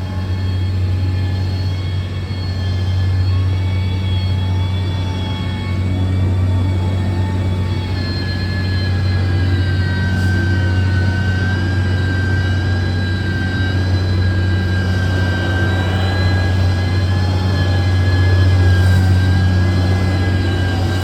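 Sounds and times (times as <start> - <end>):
diesel engine running under load: 0.0 - 21.0
high whine: 0.0 - 21.0.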